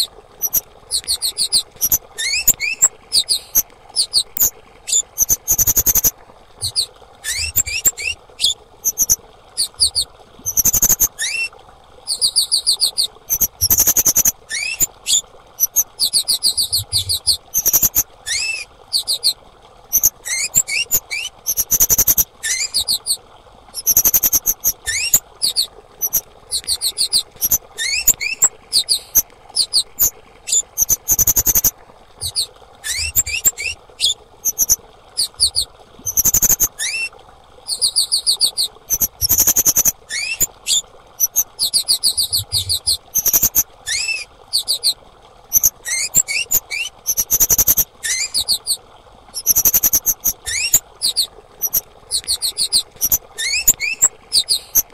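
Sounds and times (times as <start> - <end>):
songbird high chirps: 0.0 - 11.5, 12.1 - 23.1, 23.8 - 37.1, 37.7 - 48.7, 49.4 - 54.8.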